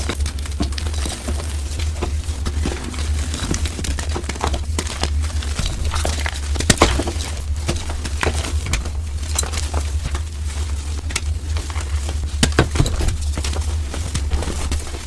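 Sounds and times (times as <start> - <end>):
chalk crunching and crackling: 0.0 - 15.0
steady low hum: 0.0 - 15.0.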